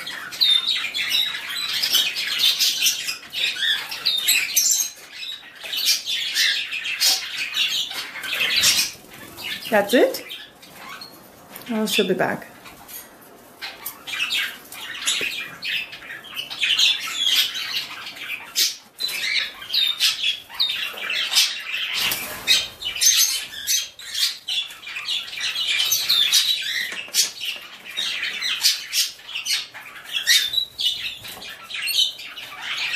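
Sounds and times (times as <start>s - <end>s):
canary chirping: 0.0s - 32.9s.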